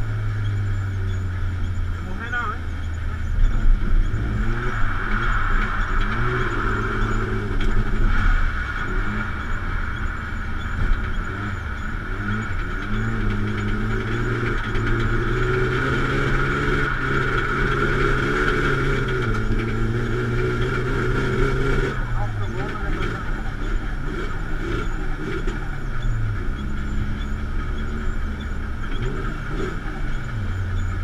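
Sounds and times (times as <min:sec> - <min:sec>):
car engine revving from cabin: 0:00.0 - 0:31.0.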